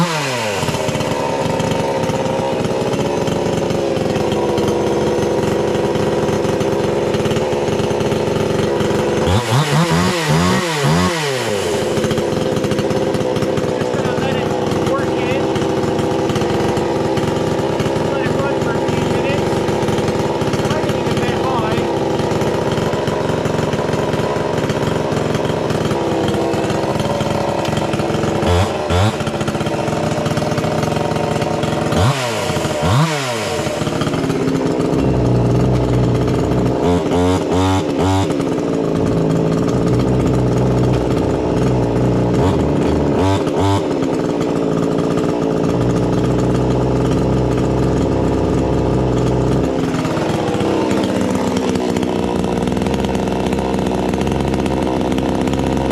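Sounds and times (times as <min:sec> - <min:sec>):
chainsaw revving: 0:00.0 - 0:55.9.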